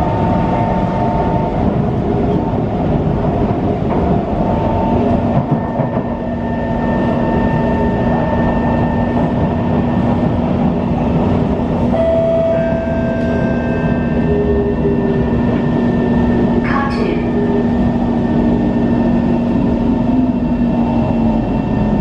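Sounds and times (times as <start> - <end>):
metro train rumbling on track: 0.0 - 22.0.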